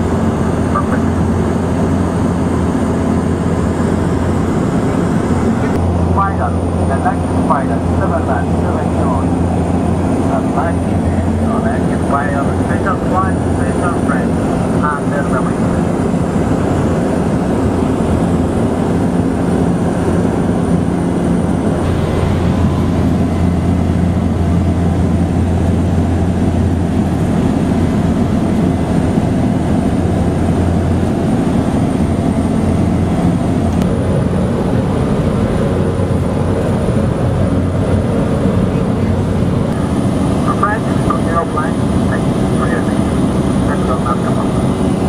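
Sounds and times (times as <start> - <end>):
light aircraft engine drone: 0.0 - 45.0.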